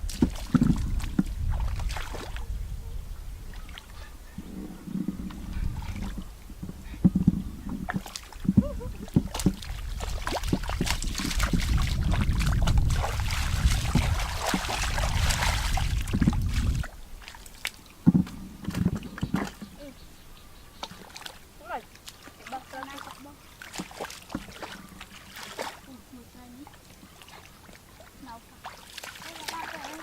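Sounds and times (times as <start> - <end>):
water sloshing and splashing: 0.0 - 2.5, 3.5 - 19.9, 20.8 - 30.0.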